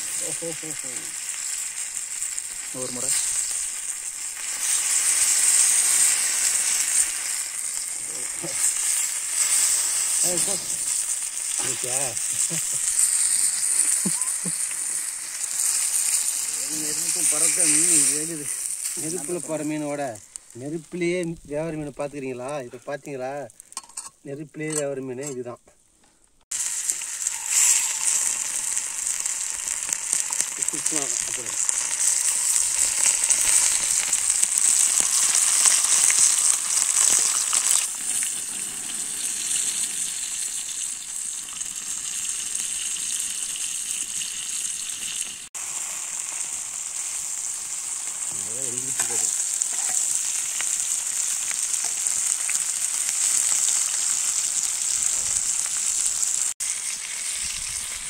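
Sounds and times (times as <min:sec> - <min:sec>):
fish sizzling in a pan: 0:00.0 - 0:25.5, 0:26.4 - 0:58.0.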